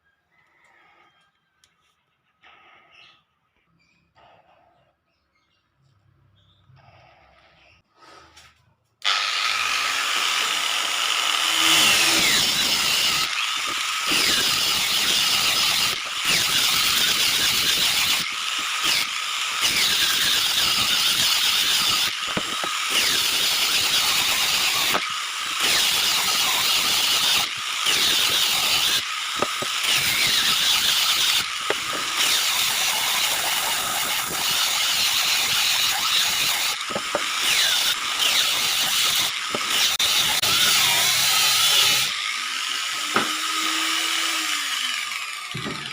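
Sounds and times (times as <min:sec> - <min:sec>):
electric power tool on wood: 0:09.0 - 0:45.9.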